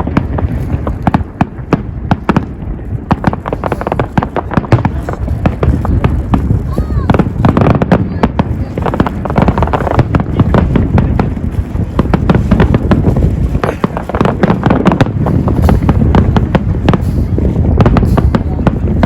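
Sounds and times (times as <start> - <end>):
firework bangs and crackles: 0.0 - 19.0
low rumble: 0.0 - 19.0.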